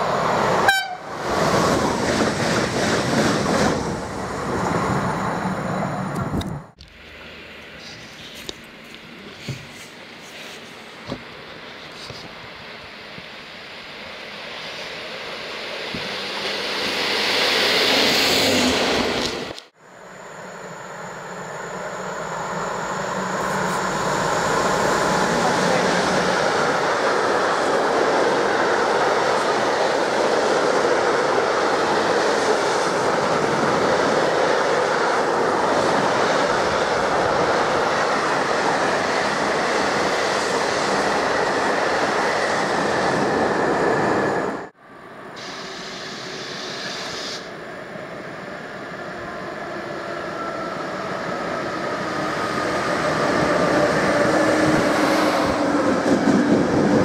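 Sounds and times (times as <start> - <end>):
train approaching with whine: 0.0 - 57.0
train passing on rails: 0.0 - 57.0.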